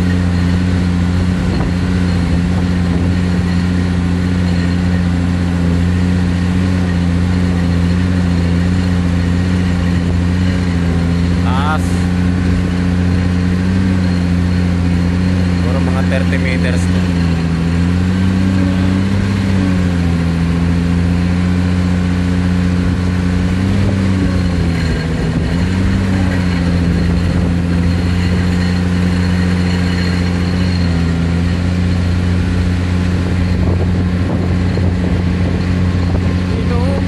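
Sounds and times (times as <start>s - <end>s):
diesel engine under load: 0.0s - 37.0s
vibro hammer driving steel pile: 0.0s - 37.0s.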